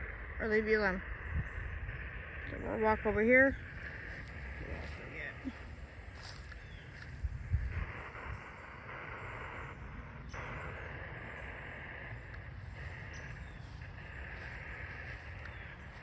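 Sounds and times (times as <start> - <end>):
radio static hiss scanning: 0.0 - 16.0.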